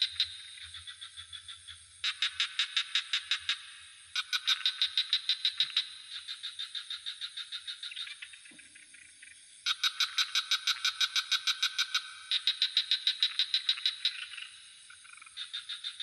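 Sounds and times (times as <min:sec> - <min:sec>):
frogs croaking: 0:00.0 - 0:16.0
high insect drone: 0:00.0 - 0:16.0.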